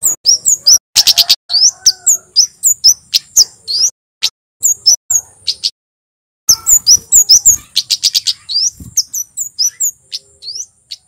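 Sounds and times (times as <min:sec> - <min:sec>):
songbird chirping and whistling: 0:00.0 - 0:03.9, 0:04.6 - 0:05.8, 0:06.5 - 0:11.0.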